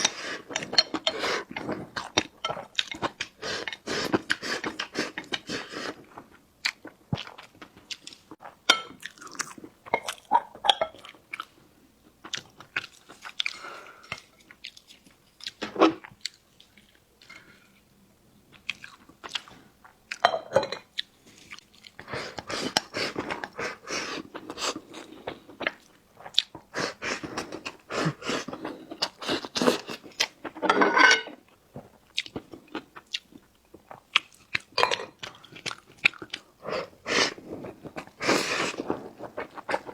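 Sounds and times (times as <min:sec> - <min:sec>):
person chewing food: 0:00.0 - 0:17.8, 0:18.5 - 0:39.9.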